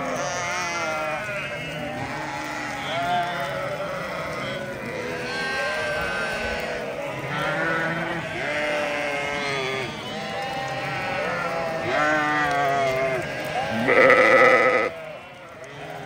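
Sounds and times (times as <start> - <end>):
sheep bleating: 0.0 - 16.0.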